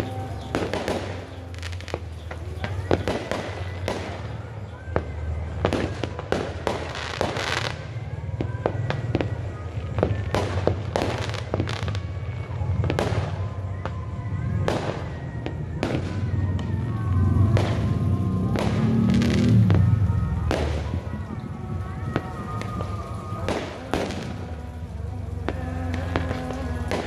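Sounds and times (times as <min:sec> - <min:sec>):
fireworks bangs and cracks: 0:00.0 - 0:27.0.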